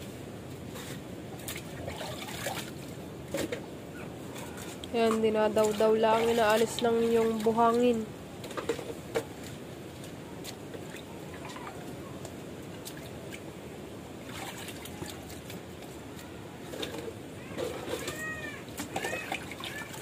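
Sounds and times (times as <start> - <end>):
water sloshing in a plastic basin: 0.8 - 20.0.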